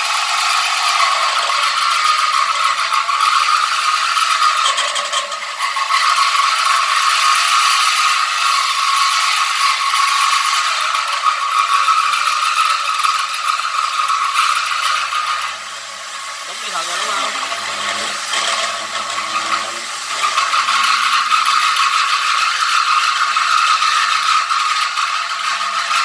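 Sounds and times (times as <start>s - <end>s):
machine rattling: 0.0s - 26.0s.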